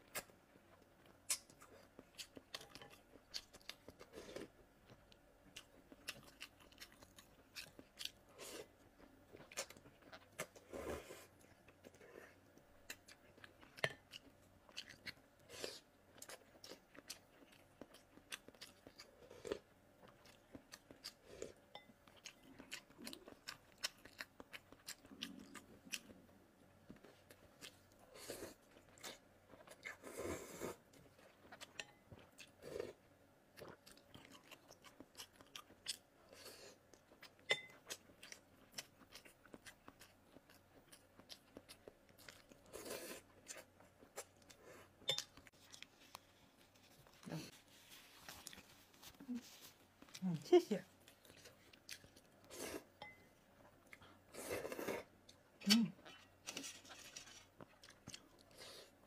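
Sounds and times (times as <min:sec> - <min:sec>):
person chewing noodles: 0:00.0 - 0:50.3, 0:51.0 - 0:59.0.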